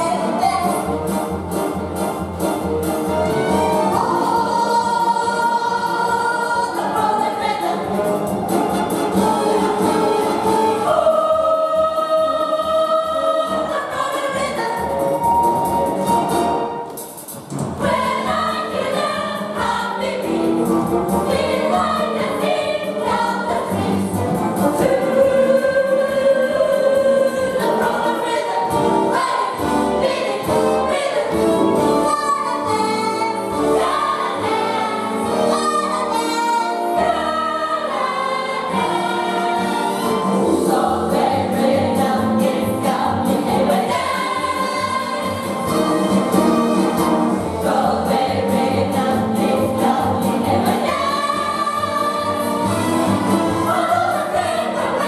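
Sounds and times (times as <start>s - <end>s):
chorus singing musical theatre: 0.0s - 55.0s.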